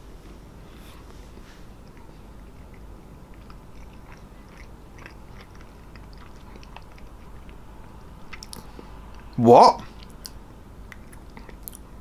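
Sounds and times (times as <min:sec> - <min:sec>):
person chewing chocolate: 0:01.8 - 0:12.0.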